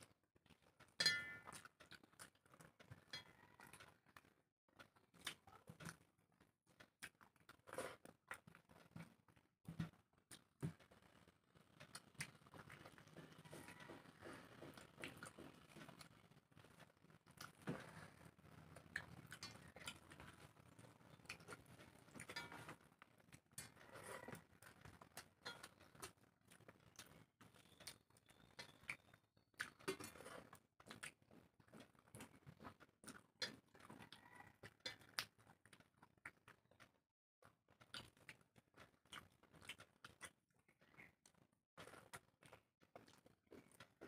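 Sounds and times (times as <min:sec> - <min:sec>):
people chewing food: 0:00.0 - 0:44.0.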